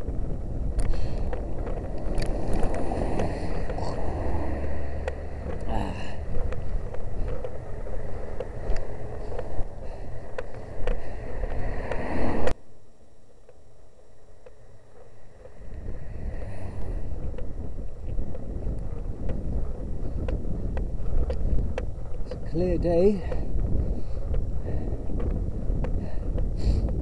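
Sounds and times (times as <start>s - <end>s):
low rumble: 0.0s - 12.6s, 13.8s - 27.0s
wind buffeting microphone: 0.0s - 12.6s, 14.0s - 27.0s.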